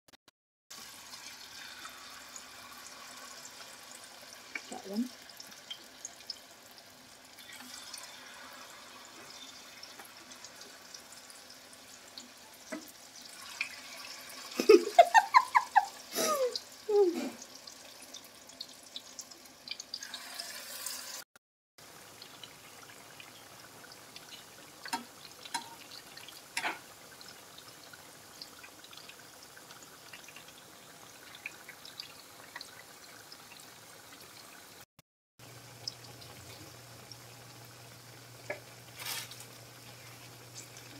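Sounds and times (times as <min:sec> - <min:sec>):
oil sizzling with crackles: 0:00.7 - 0:40.9.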